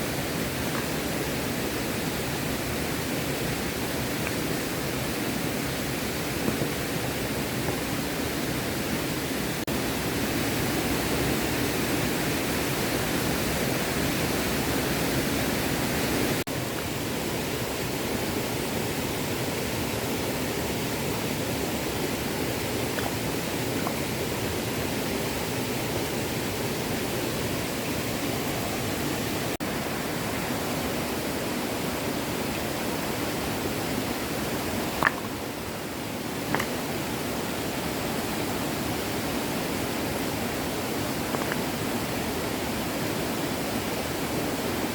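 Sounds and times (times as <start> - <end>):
small stream flowing: 0.0 - 44.9.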